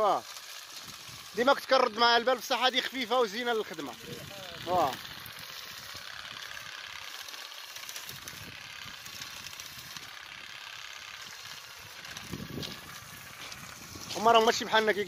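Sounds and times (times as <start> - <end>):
olive harvester fast rattle: 0.0 - 15.0.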